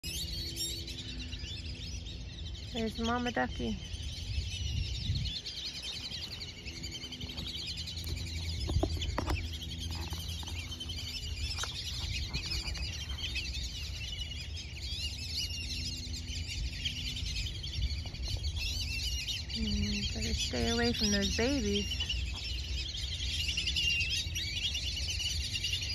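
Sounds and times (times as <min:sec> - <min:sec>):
birds chirping and twittering: 0:00.0 - 0:25.9
low steady rumble: 0:00.0 - 0:25.9.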